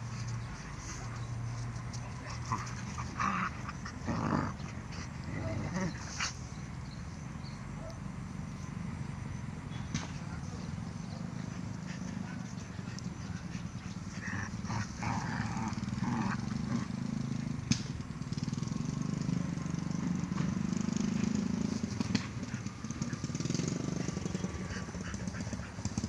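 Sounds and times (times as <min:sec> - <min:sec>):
dogs growling: 0:00.0 - 0:09.6, 0:10.2 - 0:26.0.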